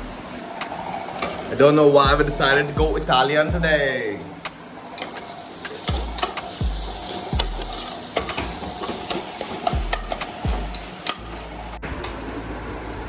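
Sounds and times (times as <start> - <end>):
vegetables sizzling in a pan: 0.1 - 11.8.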